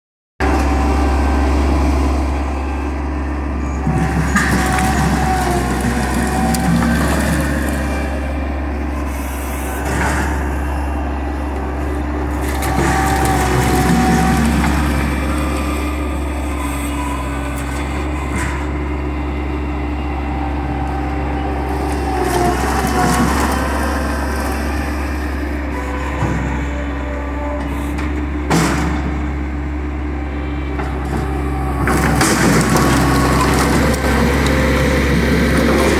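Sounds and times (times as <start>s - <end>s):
loader engine running: 0.4s - 35.9s.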